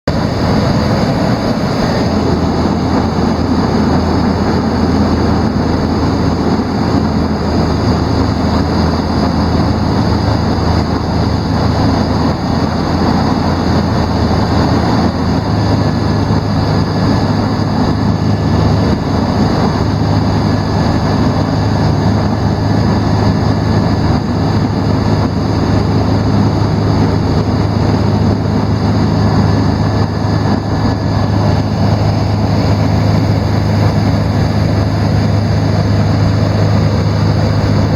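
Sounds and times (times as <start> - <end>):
propeller plane engine drone: 0.0 - 37.9.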